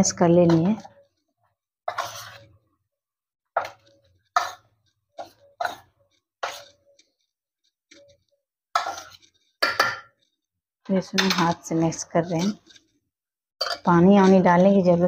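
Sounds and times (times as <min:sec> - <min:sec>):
metal spoon scraping a steel pot: 0:00.0 - 0:02.6, 0:03.6 - 0:07.3, 0:07.9 - 0:13.0, 0:13.6 - 0:15.0.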